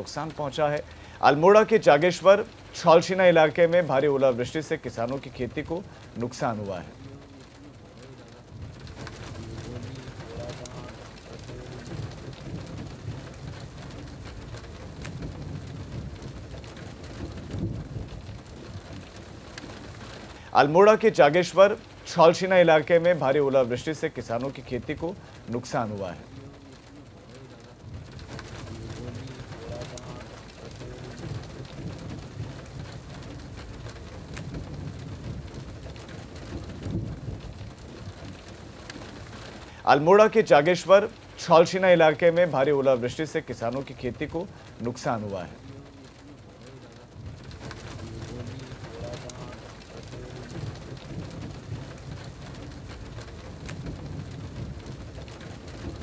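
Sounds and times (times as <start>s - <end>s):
low uneven rumble: 0.0s - 56.0s
raindrops ticking: 0.0s - 56.0s
steady rain: 0.0s - 56.0s.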